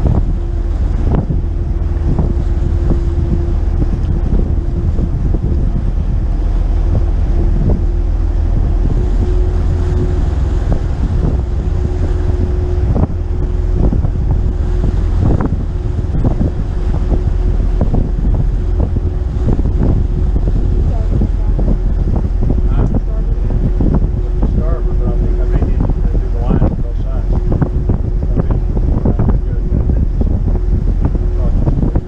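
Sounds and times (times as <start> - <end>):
boat engine rumble: 0.0 - 32.0
knocks and water splashes: 0.0 - 32.0
wind buffeting microphone: 0.0 - 32.0.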